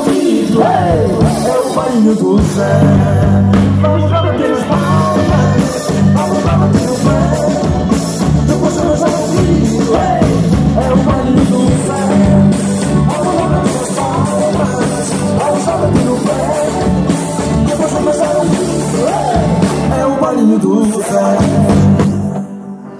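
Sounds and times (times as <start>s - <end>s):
accordion: 0.0s - 22.9s
drums: 0.0s - 22.9s
electric guitar: 0.0s - 22.9s
person singing: 0.0s - 22.9s.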